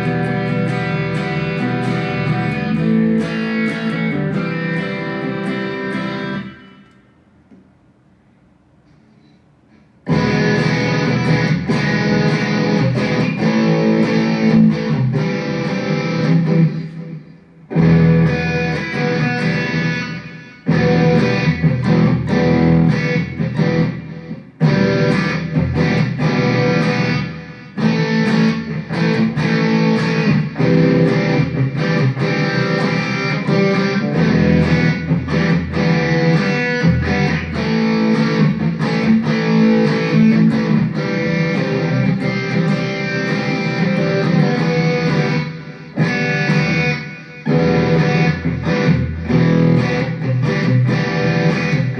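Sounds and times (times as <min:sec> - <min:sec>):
electric guitar phrases: 0:00.0 - 0:51.9.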